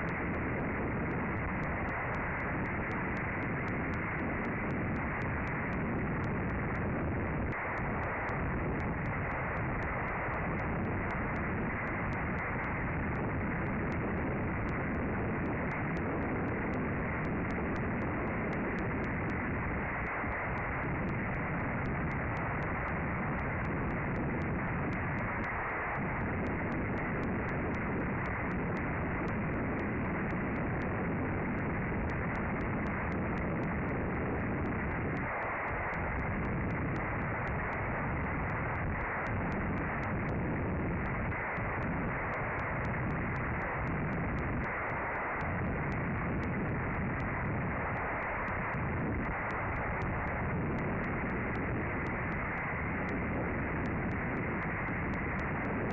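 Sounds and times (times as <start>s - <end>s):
strong wind on microphone: 0.0s - 55.9s.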